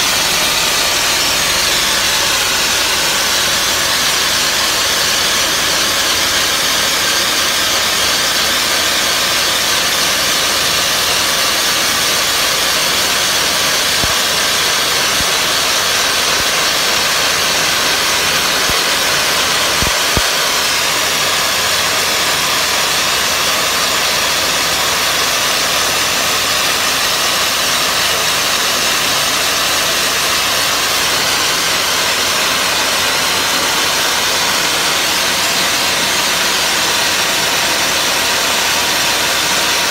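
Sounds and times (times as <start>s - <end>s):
blasting nozzle hissing: 0.0s - 39.9s.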